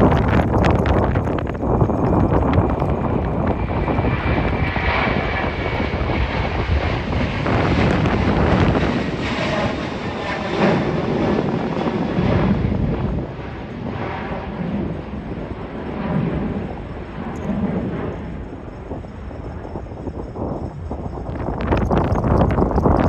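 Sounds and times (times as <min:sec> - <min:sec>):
high engine whine: 0:00.0 - 0:23.0
jet engines roaring: 0:00.0 - 0:23.0.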